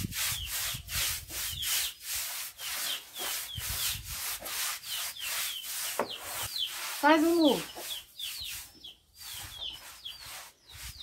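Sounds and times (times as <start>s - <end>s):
broom scrubbing a wet floor: 0.0s - 11.0s.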